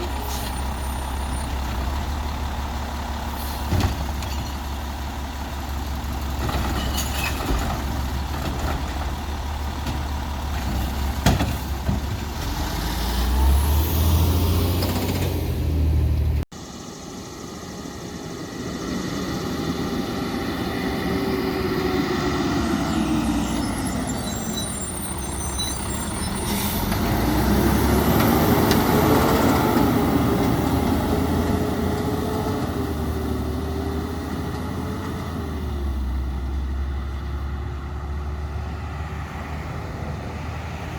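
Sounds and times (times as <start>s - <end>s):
garbage truck engine rumble: 0.0s - 16.5s, 18.1s - 40.9s.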